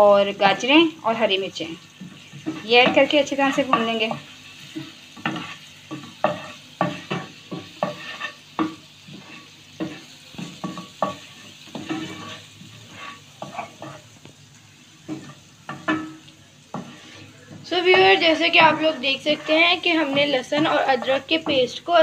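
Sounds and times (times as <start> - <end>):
paste sizzling in oil: 0.0 - 22.0
wooden spoon scraping a pan: 1.6 - 14.2, 14.9 - 22.0.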